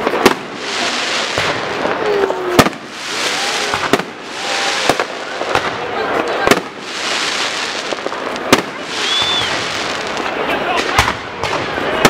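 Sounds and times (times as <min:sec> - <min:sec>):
hissing crackle of fireworks: 0:00.0 - 0:12.0.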